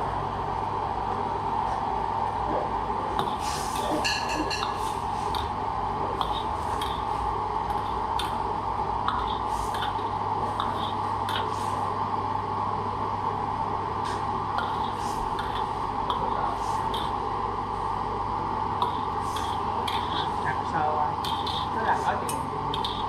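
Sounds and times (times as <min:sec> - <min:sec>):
kitchen equipment humming: 0:00.0 - 0:23.0.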